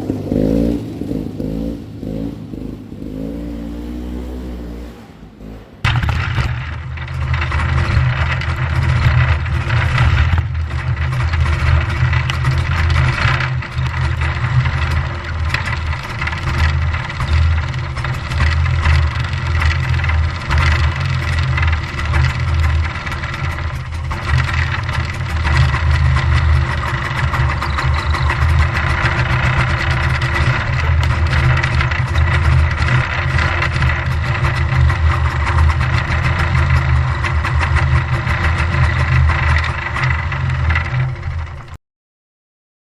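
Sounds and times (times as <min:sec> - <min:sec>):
snowmobile engine running: 0:00.0 - 0:41.8.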